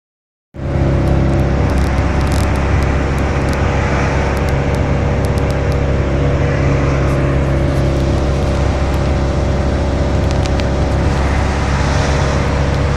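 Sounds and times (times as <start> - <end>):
road noise: 0.6 - 12.9
vehicle engine drone: 0.6 - 12.9.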